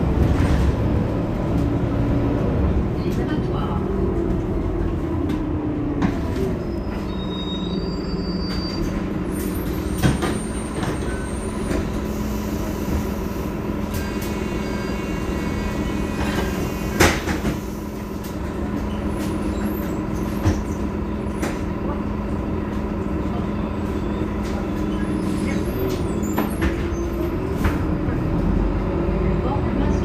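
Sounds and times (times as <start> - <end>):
bus engine idling: 0.0 - 30.0.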